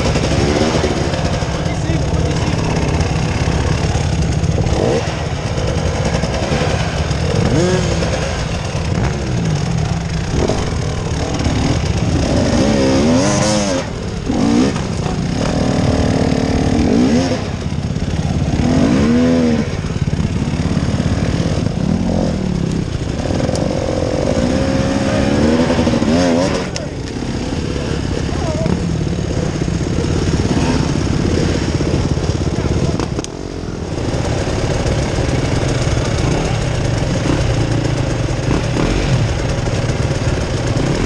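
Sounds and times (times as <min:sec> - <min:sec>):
off-road engine revving: 0:00.0 - 0:41.0.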